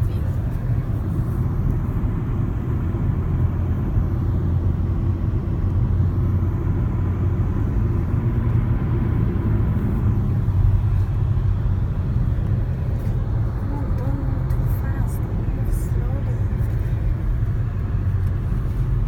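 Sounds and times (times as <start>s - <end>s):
car driving on highway interior: 0.0s - 19.0s.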